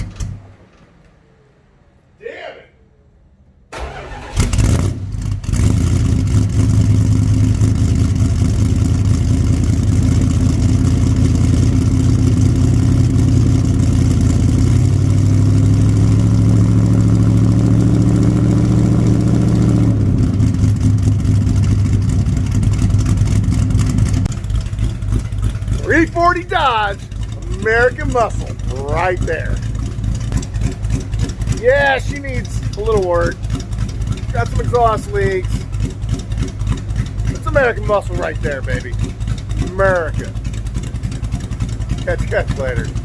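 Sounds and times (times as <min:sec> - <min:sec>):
engine cranking and starting: 0:00.0 - 0:01.1, 0:03.7 - 0:14.9, 0:20.2 - 0:43.0
car engine idling loudly: 0:04.6 - 0:43.0.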